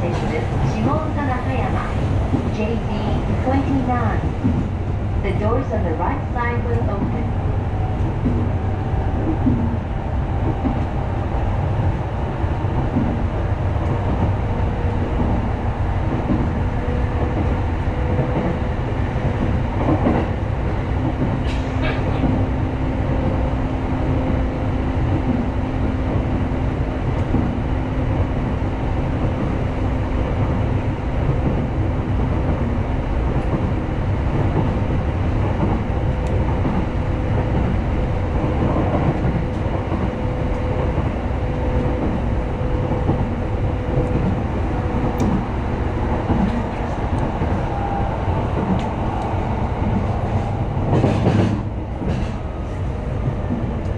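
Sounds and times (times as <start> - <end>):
train rumble inside carriage: 0.0 - 53.9.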